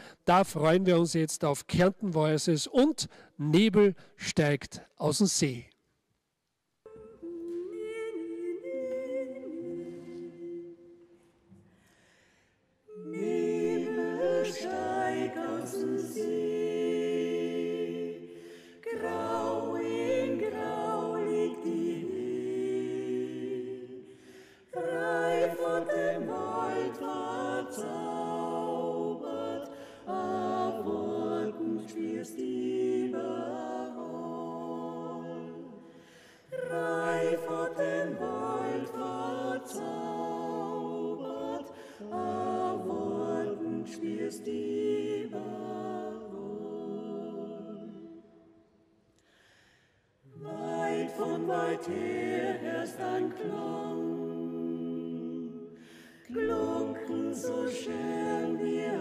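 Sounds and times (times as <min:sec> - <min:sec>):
a cappella vocal ensemble singing: 0:00.0 - 0:00.2, 0:06.8 - 0:59.0.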